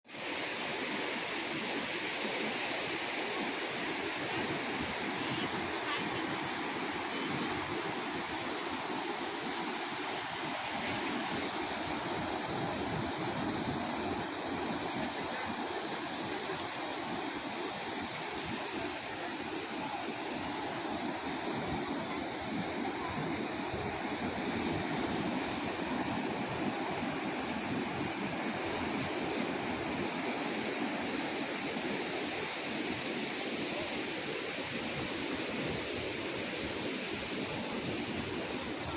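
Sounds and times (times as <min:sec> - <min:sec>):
ocean surf on a beach: 0:00.1 - 0:38.9.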